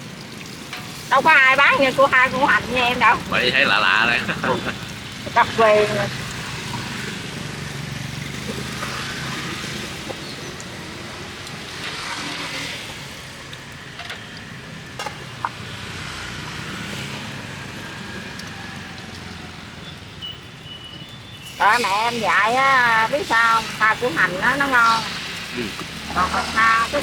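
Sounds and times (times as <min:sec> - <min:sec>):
motorbikes and cars passing: 0:00.0 - 0:27.0.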